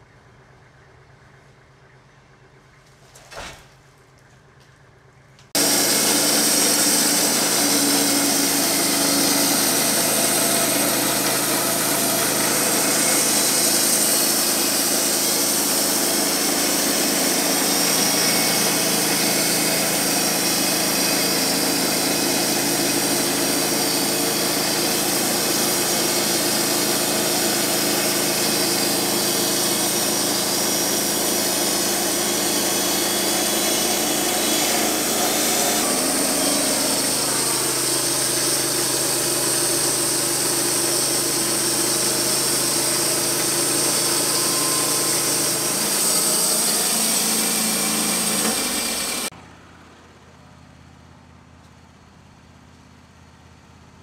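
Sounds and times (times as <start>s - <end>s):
bandsaw mill cutting a log: 5.6s - 49.4s.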